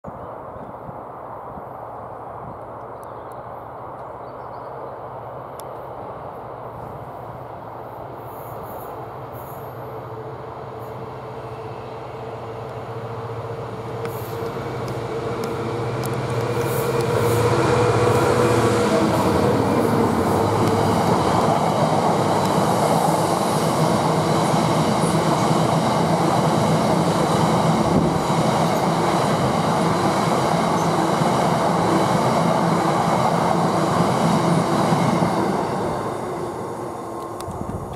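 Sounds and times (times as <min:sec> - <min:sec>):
diesel locomotive engine drone: 0:00.3 - 0:37.9.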